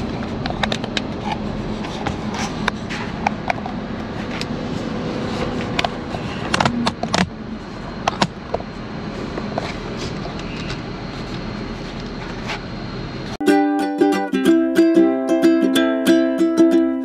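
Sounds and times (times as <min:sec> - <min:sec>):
road and engine noise in car: 0:00.0 - 0:17.0.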